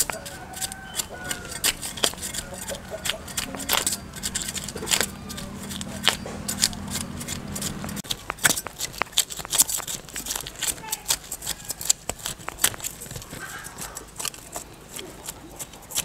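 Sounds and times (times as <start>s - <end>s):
knife scraping fish scales: 0.0s - 16.0s
low steady hum: 0.0s - 16.0s.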